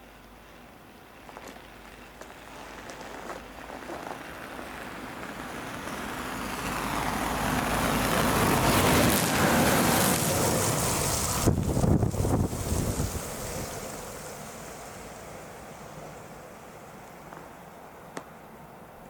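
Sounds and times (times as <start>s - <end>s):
train rumble and rail noise: 0.0s - 19.0s.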